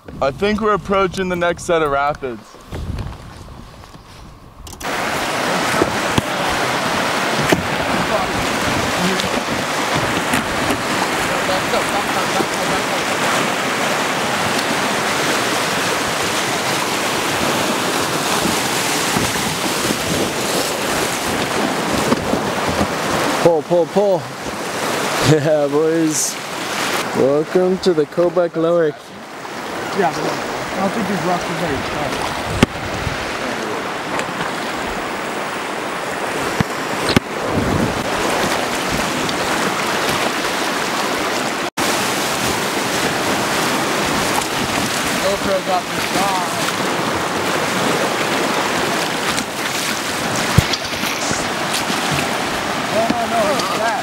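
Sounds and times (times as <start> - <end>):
whitewater rapids rushing: 4.8 - 54.0.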